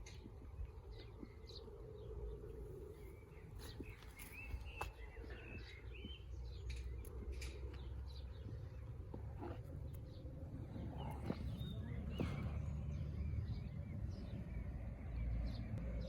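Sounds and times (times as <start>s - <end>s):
birds chirping: 0.0s - 16.0s
faint low rumble: 0.0s - 16.0s.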